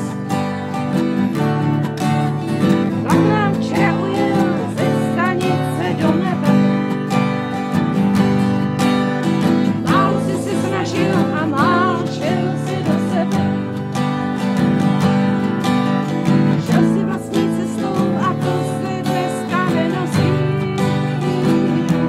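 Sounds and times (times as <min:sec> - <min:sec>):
acoustic guitars strumming: 0:00.0 - 0:22.0.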